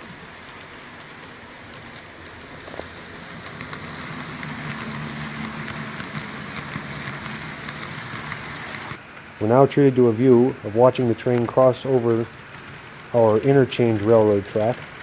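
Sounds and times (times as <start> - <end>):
faint high squeaks: 0.0 - 14.7
model train motors humming: 0.0 - 15.0
wheels clicking on track: 0.0 - 15.0.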